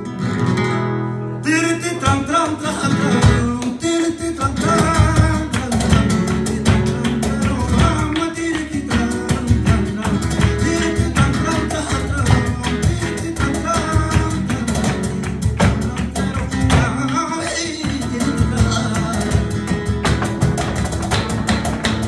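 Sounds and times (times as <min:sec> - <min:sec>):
cajon beats: 0:00.0 - 0:22.0
hand-clapping: 0:02.0 - 0:22.0.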